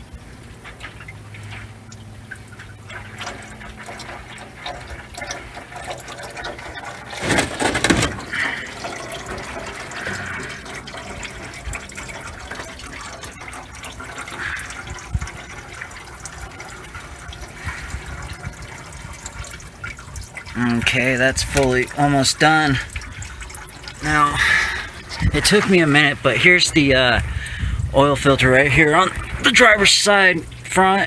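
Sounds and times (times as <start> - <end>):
oil splashing into drain pan: 0.5 - 30.9.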